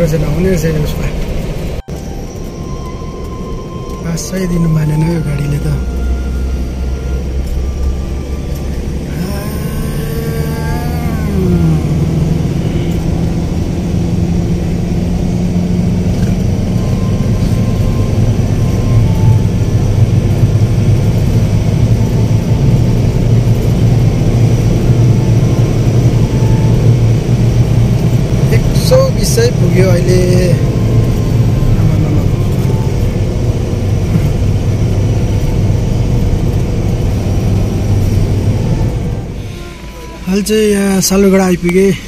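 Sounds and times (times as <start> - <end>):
car engine and road noise: 0.0 - 42.0
gliding tones: 0.2 - 42.0
falling note: 1.7 - 36.4, 37.1 - 41.7.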